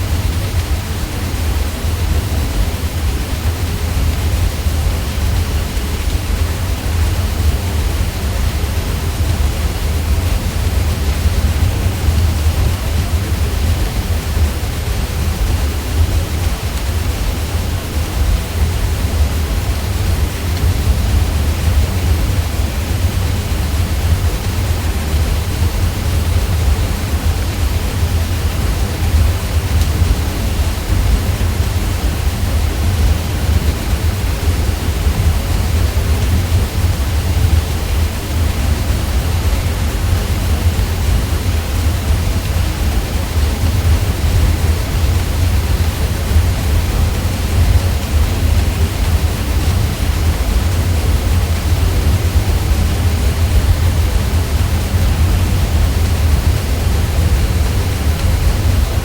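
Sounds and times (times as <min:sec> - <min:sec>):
ceiling fan drone: 0:00.0 - 0:59.0.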